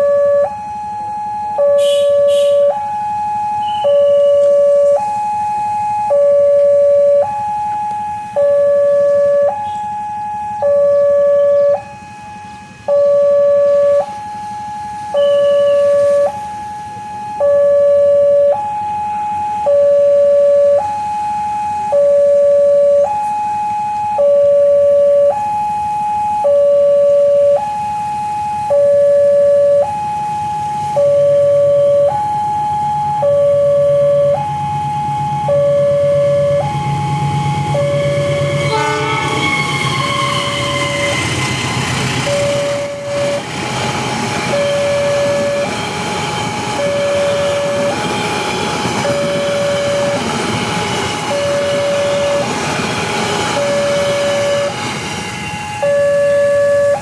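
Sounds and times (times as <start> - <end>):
two-tone level crossing alarm: 0.0 - 57.0
low rumble of train: 3.6 - 57.0.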